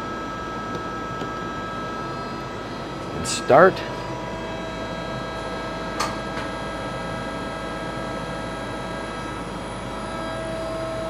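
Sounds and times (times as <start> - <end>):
lathe whine and hum: 0.0 - 11.0.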